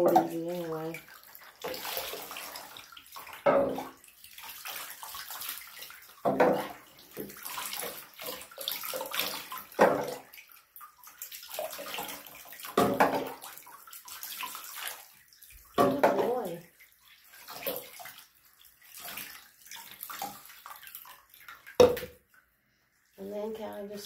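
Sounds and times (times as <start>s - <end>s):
water pouring into bathtub: 0.0s - 24.0s
water trickling and sloshing: 0.0s - 24.0s.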